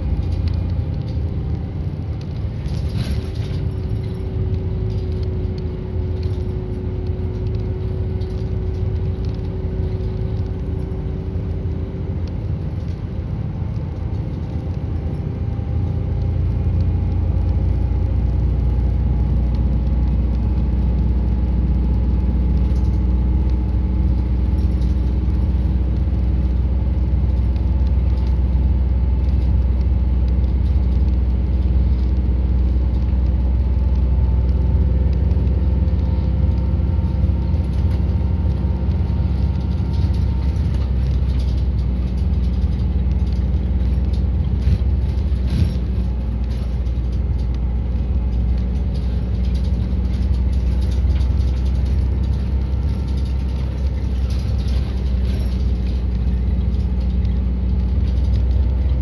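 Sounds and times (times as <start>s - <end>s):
bus engine: 0.0s - 59.0s
road noise: 0.0s - 59.0s.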